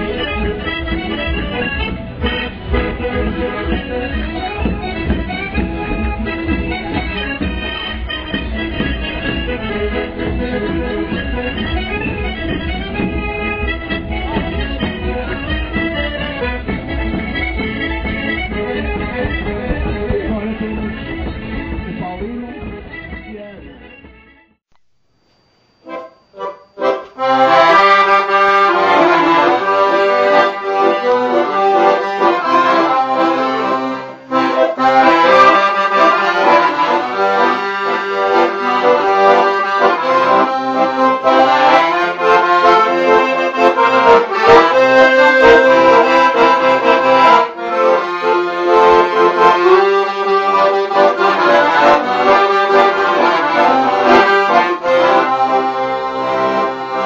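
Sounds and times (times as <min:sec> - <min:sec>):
accordion playing a traditional tune: 0:00.0 - 0:24.6, 0:25.8 - 0:57.0.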